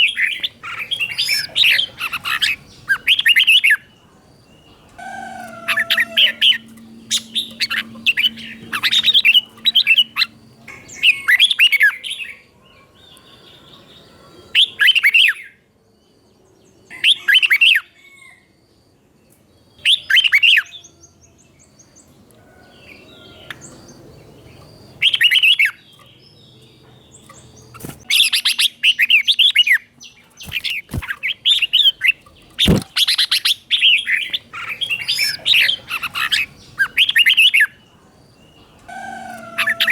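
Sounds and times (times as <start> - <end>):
bird warbling song: 0.0 - 15.5, 19.8 - 39.9.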